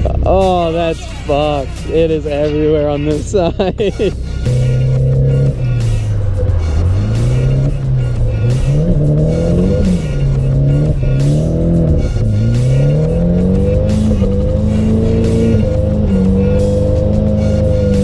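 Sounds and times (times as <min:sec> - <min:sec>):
background music: 0:00.0 - 0:18.0
car engine revving: 0:00.0 - 0:18.0.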